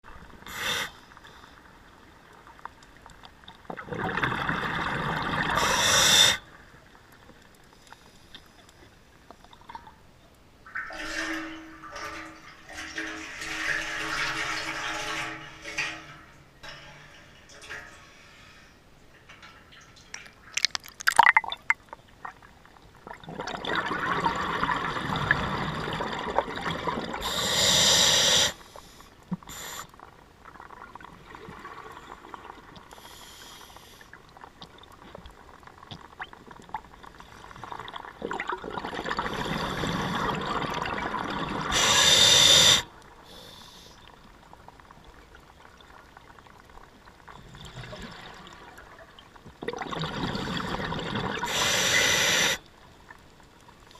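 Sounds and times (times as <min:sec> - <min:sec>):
underwater water noise: 0:00.0 - 0:53.9.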